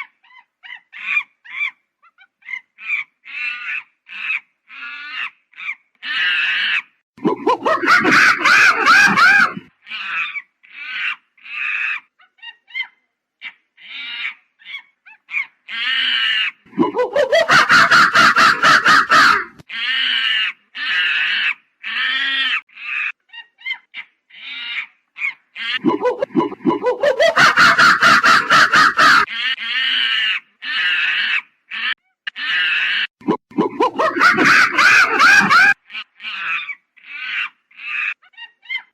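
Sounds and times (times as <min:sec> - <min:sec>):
monkey hoarse calls: 0:00.0 - 0:38.9.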